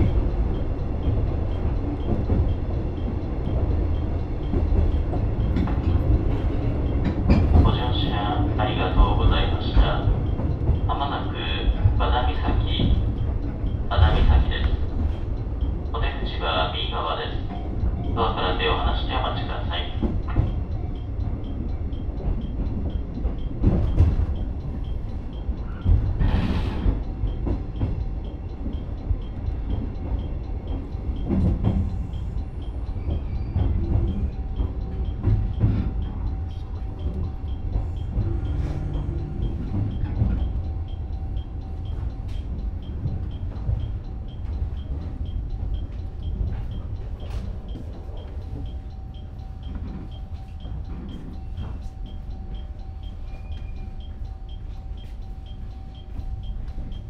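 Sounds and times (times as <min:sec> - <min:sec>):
train rumbling along track: 0:00.0 - 0:57.0.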